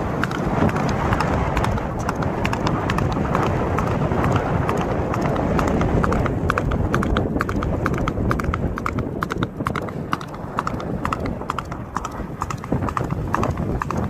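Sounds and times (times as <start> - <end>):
horse hooves clip-clopping: 0.0 - 14.0
low rumble: 0.0 - 14.0.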